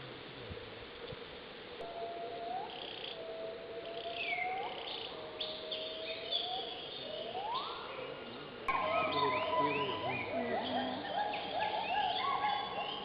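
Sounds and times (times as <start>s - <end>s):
steady background hiss: 0.0s - 13.0s
birds chirping: 1.7s - 13.0s
long rising whistled calls: 1.8s - 13.0s.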